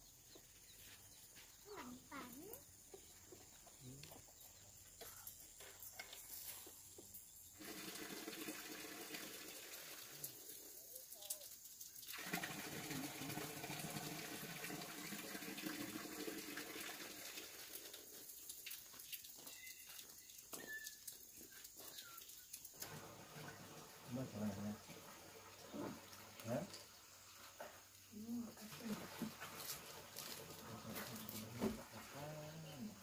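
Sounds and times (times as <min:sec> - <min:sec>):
water running: 0:06.2 - 0:33.0.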